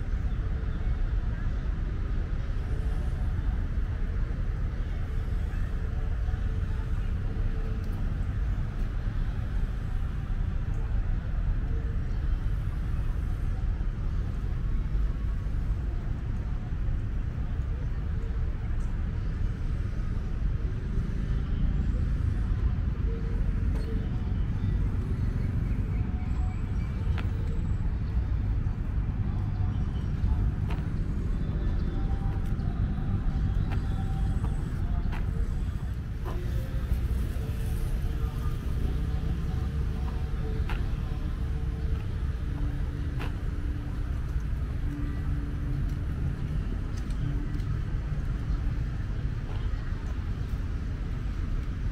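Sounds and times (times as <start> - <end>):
distant road traffic: 0.0 - 51.9.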